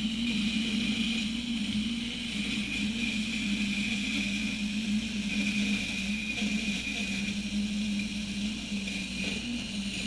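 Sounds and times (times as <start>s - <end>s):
model train low hum: 0.0s - 10.0s
thin high whine: 0.0s - 10.0s.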